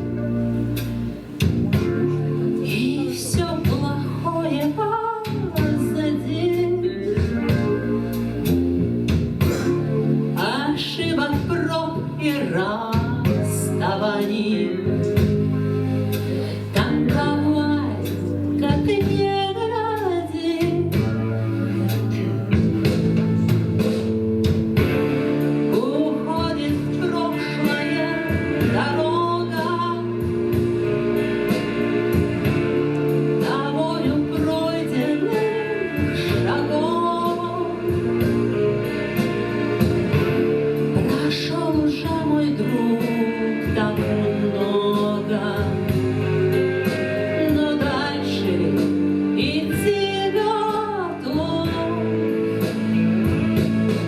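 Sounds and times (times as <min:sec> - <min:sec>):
instrumental accompaniment: 0:00.0 - 0:54.0.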